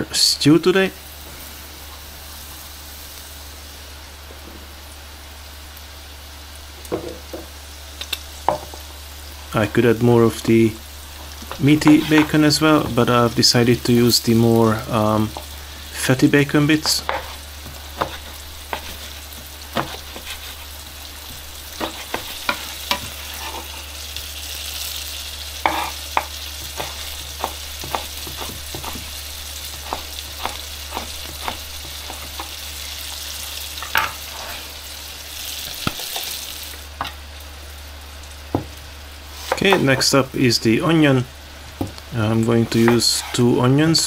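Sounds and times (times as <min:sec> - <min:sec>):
bacon sizzling in a frying pan: 0:00.0 - 0:44.0.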